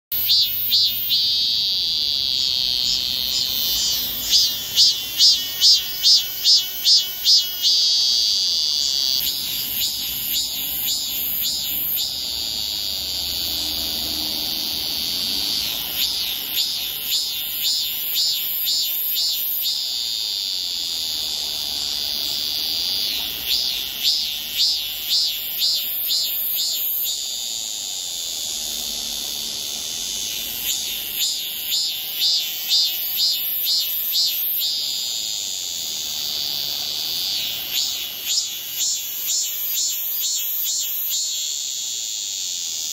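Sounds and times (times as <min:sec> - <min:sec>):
cicada buzzing and pulsing: 0:00.0 - 0:42.9.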